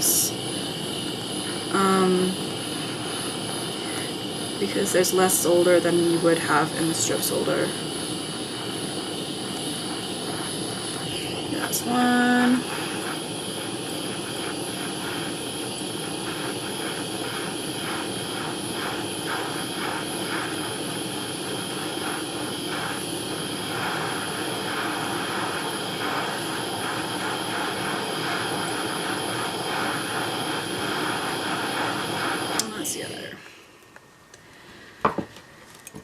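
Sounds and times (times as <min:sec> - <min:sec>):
gas torch hissing: 0:00.0 - 0:36.0.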